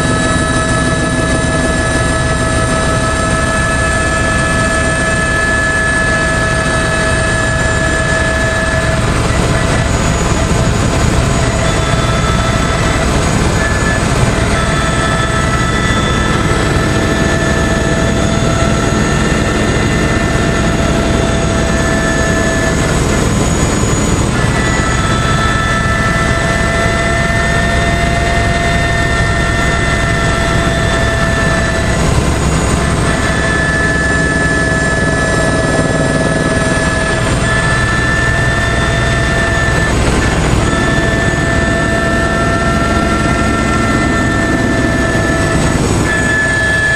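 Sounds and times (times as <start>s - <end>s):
helicopter rotor and turbine noise: 0.0s - 46.9s
multi-tone turbine whine: 0.0s - 46.9s.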